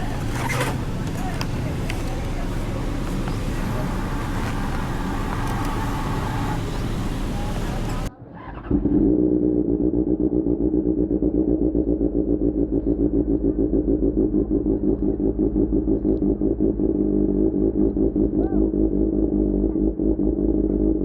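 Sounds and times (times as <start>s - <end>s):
motorcycle exhaust pulsing steadily: 0.0s - 21.0s.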